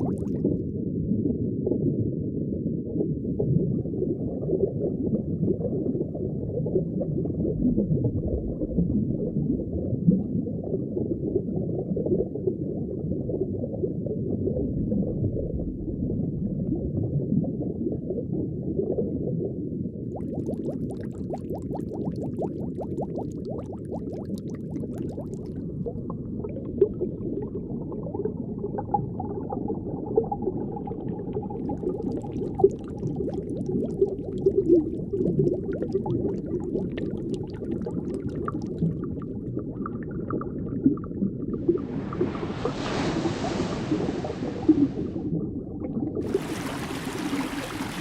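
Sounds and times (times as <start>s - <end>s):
underwater bubbling and gurgling: 0.0s - 48.0s.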